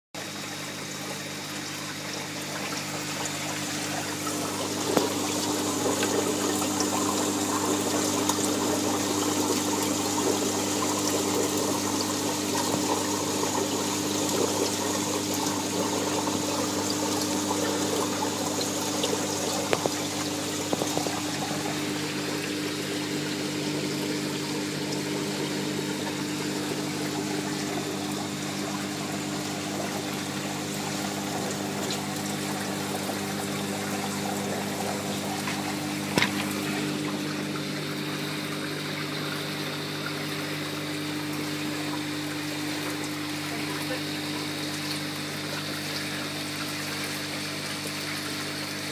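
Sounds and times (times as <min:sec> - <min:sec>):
pump humming: 0:00.2 - 0:48.9
water pouring and trickling: 0:00.2 - 0:48.9.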